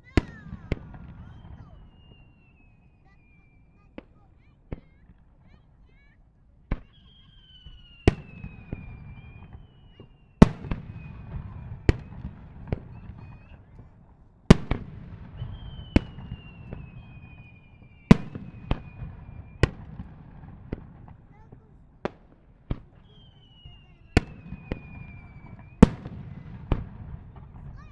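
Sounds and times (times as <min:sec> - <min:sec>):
fireworks bursting with sharp bangs: 0:00.0 - 0:27.9.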